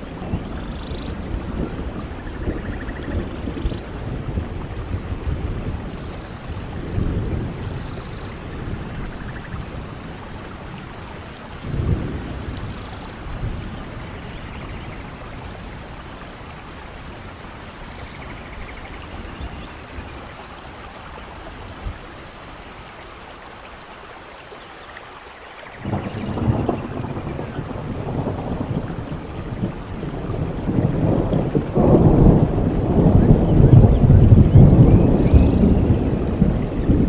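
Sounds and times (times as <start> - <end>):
low rolls of thunder: 0.0 - 22.9, 25.7 - 37.0
steady rain falling: 0.0 - 37.0.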